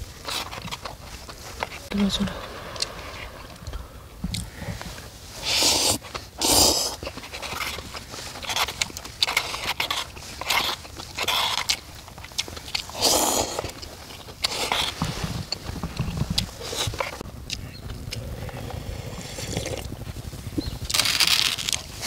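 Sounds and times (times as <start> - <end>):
slurping and chewing: 0.0 - 22.0.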